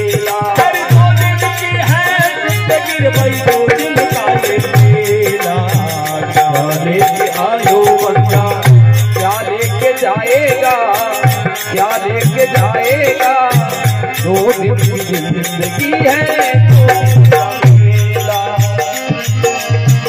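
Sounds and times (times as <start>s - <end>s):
harmonium melody: 0.0s - 20.0s
jingling percussion: 0.0s - 20.0s
steady drum beat: 0.0s - 20.0s.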